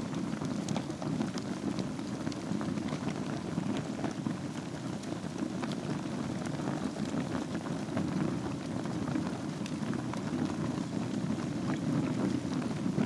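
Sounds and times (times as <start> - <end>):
fire crackling and popping: 0.0 - 13.0
flames rushing: 0.0 - 13.0.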